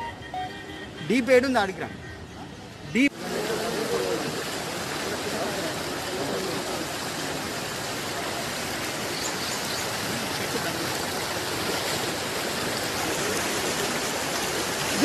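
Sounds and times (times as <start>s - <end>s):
floodwater rushing: 2.6s - 15.0s.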